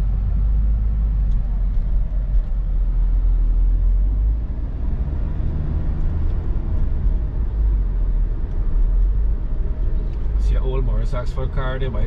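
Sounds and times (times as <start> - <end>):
road and engine rumble inside van: 0.0 - 12.0.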